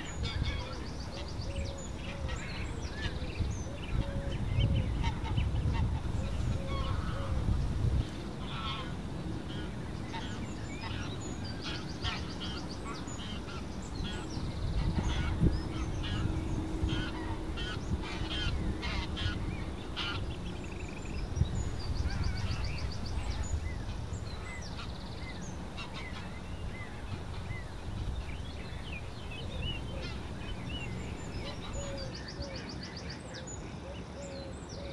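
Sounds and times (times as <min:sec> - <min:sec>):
geese honking in flight: 0:00.0 - 0:32.1
steady low rumble: 0:00.0 - 0:32.4.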